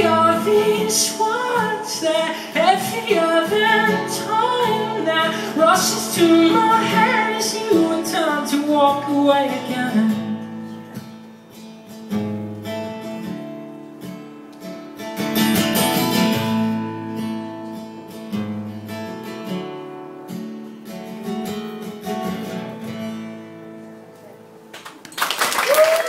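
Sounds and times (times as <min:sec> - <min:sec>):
guitar strumming chords: 0:00.0 - 0:24.7.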